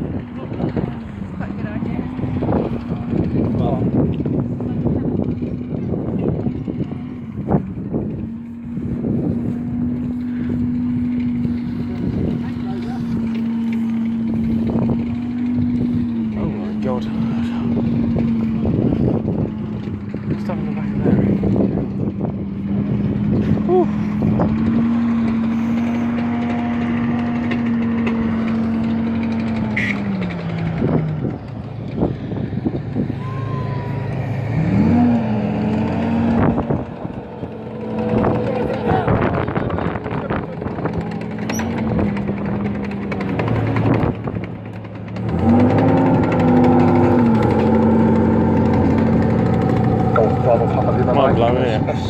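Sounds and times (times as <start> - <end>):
aircraft engine droning overhead: 0.0 - 52.0.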